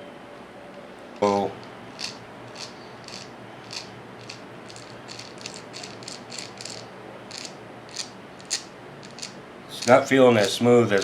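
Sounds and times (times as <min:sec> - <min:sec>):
small gear parts clicking and rattling: 0:02.0 - 0:11.0.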